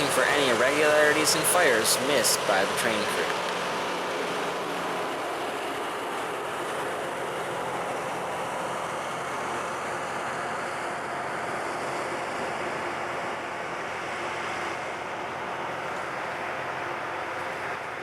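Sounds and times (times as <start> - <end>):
rail grinder train rumbling: 0.0 - 18.0.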